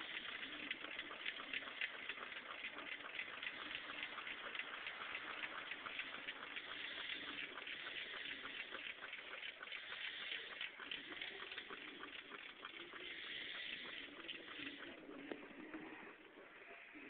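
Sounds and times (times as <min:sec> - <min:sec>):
stirling engine ticking rattle: 0:00.0 - 0:16.7.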